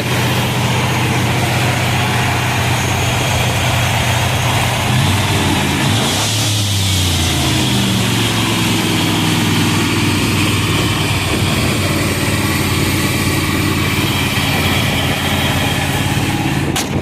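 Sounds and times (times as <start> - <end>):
pickup truck engine running: 0.0 - 17.0.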